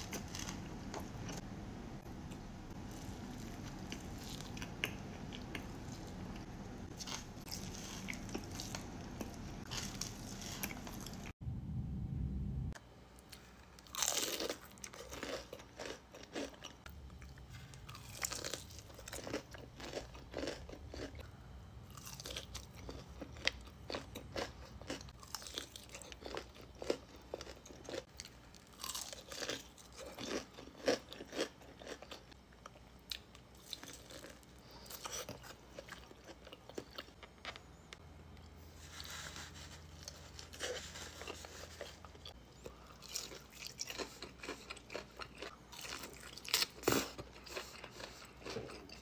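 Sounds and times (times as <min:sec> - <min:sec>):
crunchy chewing: 0:00.0 - 0:11.3, 0:13.3 - 0:49.0.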